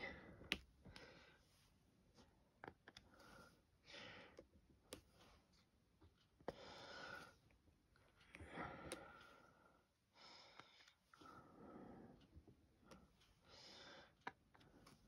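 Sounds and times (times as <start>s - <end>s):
soft breathing: 0.0s - 2.4s, 3.0s - 5.7s, 6.5s - 15.0s.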